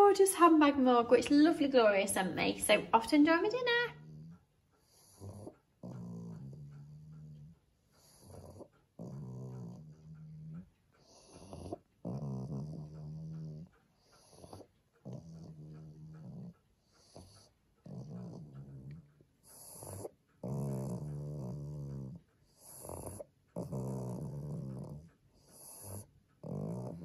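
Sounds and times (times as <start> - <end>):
dog breathing with snoring rasp: 3.6 - 27.0.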